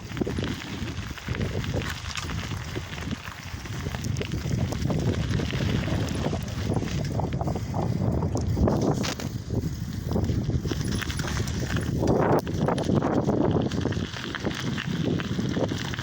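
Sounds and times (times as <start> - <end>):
bicycle rattling and crunching: 0.0 - 16.0
wind buffeting microphone: 0.0 - 16.0.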